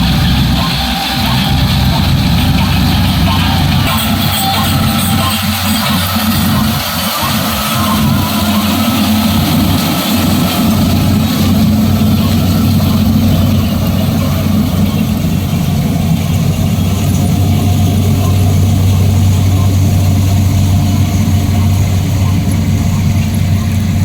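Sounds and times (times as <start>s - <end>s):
harvesting machine engine humming: 0.0s - 24.0s.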